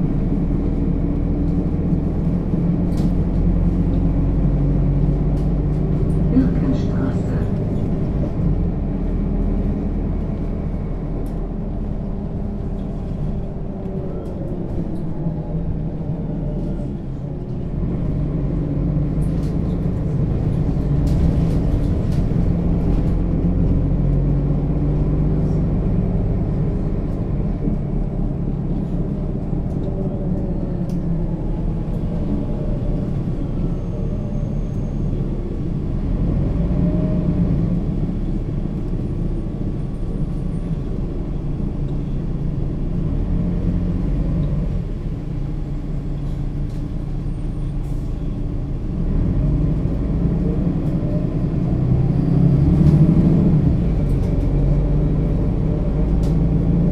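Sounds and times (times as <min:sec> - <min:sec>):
bus diesel engine rumbling: 0:00.0 - 0:56.9.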